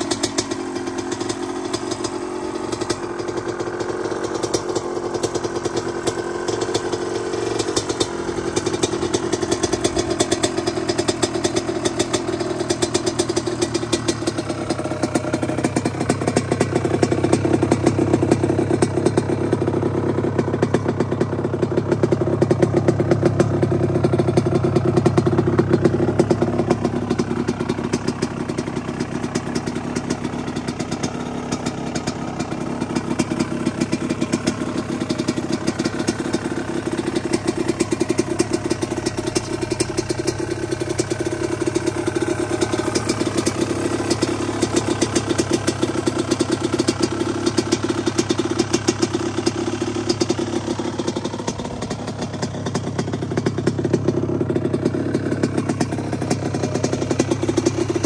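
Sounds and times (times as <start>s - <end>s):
two-stroke engine idling: 0.0s - 58.0s.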